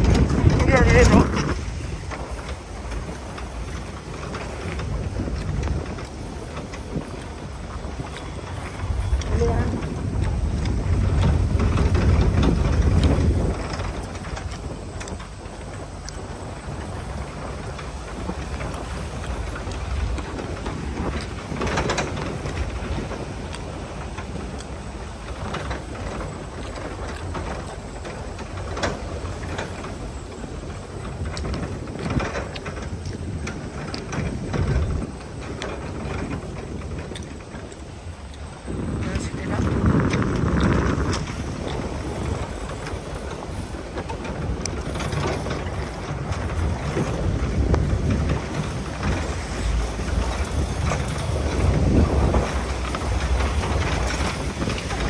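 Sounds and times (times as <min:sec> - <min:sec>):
vehicle engine rumble: 0:00.0 - 0:55.0
vehicle knocks and rattles: 0:00.0 - 0:55.0.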